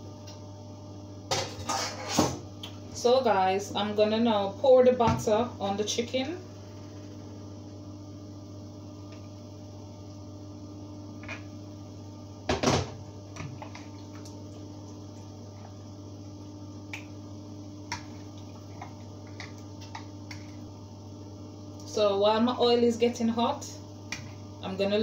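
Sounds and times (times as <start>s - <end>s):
mains hum: 0.0s - 25.0s.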